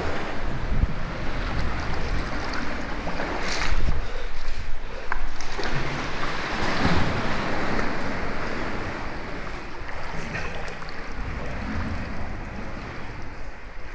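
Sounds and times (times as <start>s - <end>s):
water lapping against rocks: 1.2s - 13.9s.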